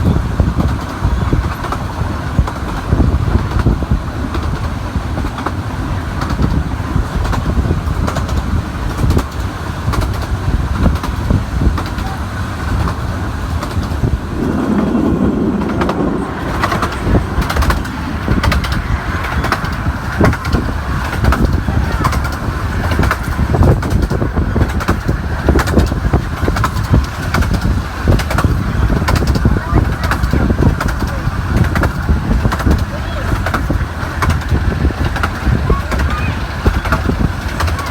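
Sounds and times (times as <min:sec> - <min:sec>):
miniature train rumbling: 0:00.0 - 0:37.9
wheels clicking on track: 0:00.0 - 0:37.9.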